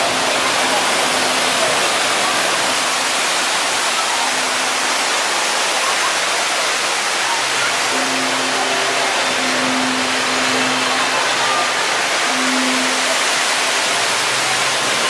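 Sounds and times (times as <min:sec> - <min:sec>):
fountain water splashing: 0:00.0 - 0:15.0
water pouring into stone basin: 0:00.0 - 0:15.0.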